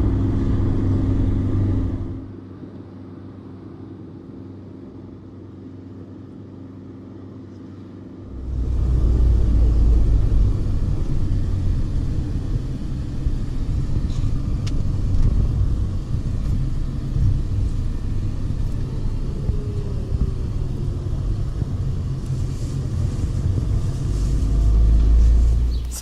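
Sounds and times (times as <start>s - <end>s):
bus driving rumble: 0.0s - 2.8s, 7.2s - 26.0s.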